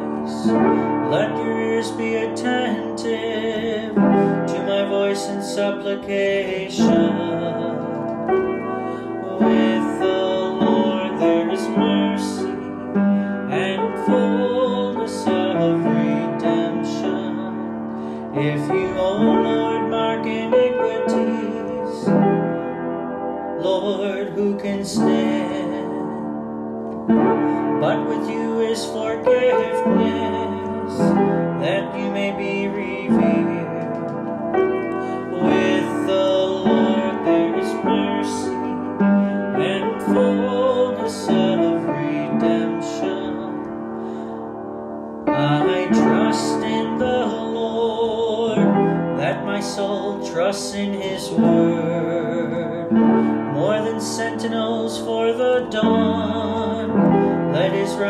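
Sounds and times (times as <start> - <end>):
slow hymn-like piano: 0.0 - 58.0.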